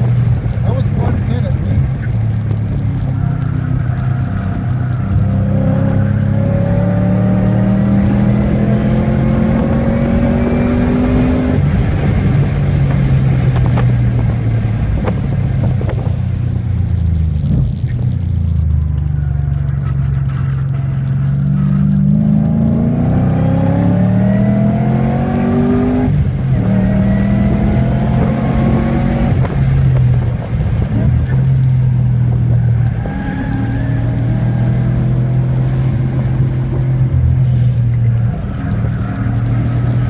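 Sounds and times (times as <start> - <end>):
car engine at full throttle: 0.0 - 40.0.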